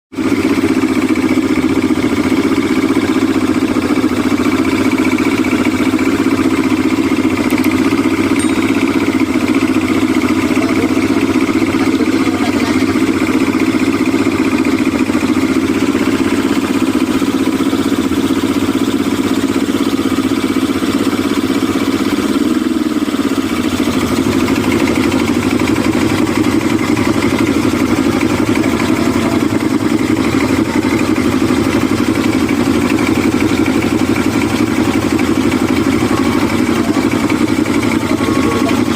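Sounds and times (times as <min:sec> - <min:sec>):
outboard motor running: 0:00.1 - 0:38.9.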